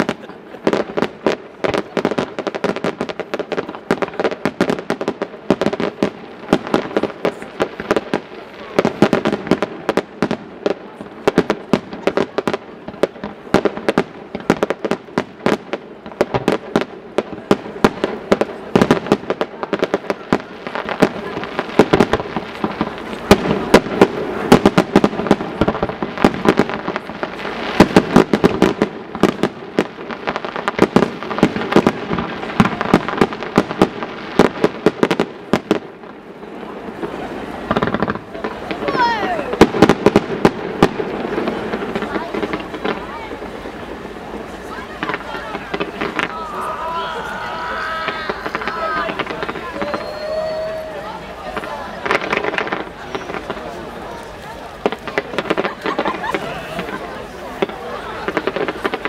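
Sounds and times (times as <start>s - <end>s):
firework bursts: 0.0s - 59.0s
firework crackle: 0.0s - 59.0s.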